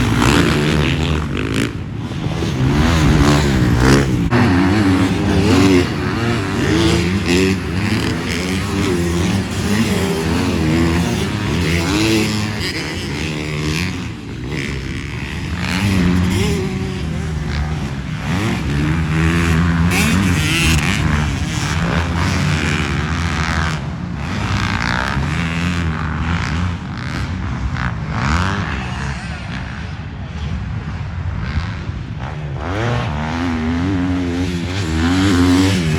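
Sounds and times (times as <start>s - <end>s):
dirt bike engines revving: 0.0s - 35.9s.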